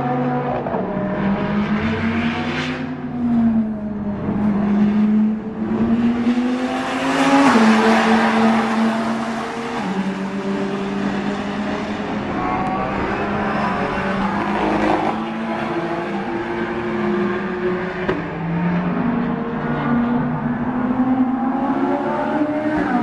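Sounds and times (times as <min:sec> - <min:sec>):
race car engine accelerating: 0:00.0 - 0:23.0.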